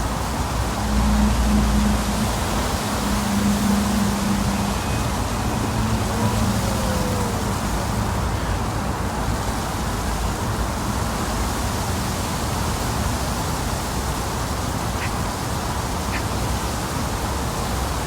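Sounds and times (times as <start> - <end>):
low engine hum: 0.0 - 18.0
rushing outdoor noise: 0.0 - 18.0.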